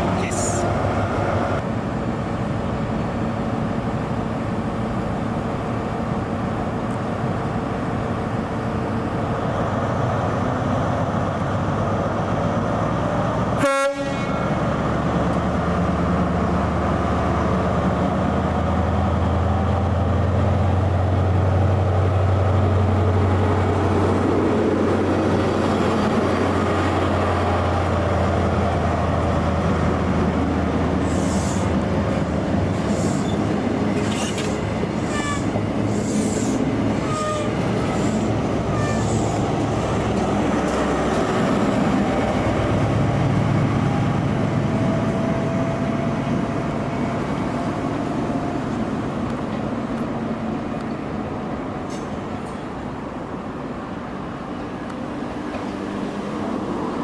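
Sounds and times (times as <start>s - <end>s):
diesel train rumbling: 0.0s - 57.0s.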